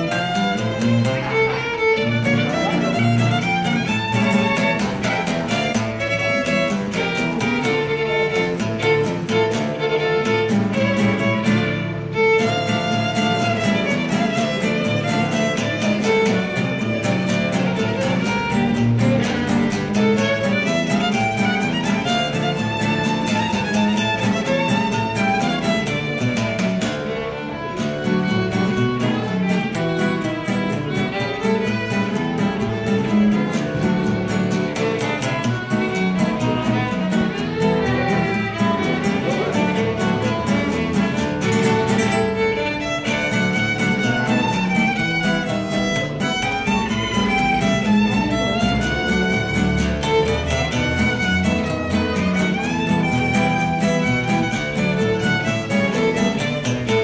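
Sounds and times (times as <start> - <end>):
strummed acoustic guitar: 0.0 - 57.0
violin melody: 0.0 - 57.0.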